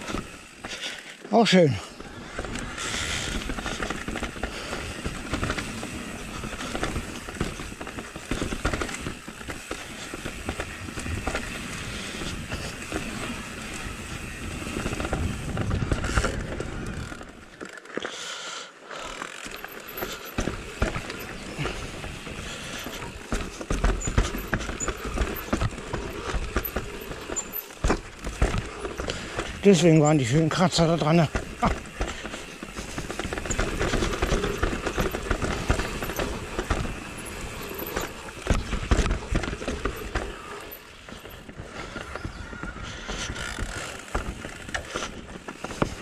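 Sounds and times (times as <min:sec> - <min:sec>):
bike frame and chain rattling: 0:00.0 - 0:18.0, 0:18.9 - 0:46.0
bike tyres rolling over dirt: 0:00.0 - 0:46.0.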